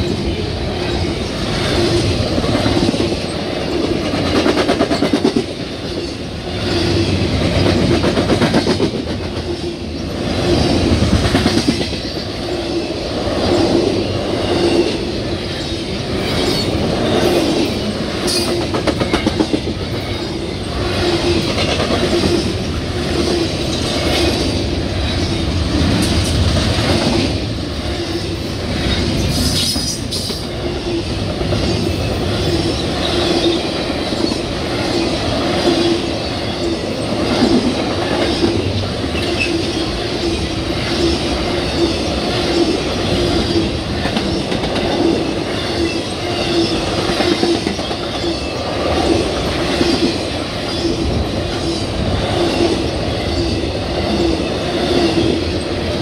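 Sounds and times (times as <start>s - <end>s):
train wheel rumble: 0.0s - 56.0s
train wheels clacking over rails: 0.8s - 56.0s.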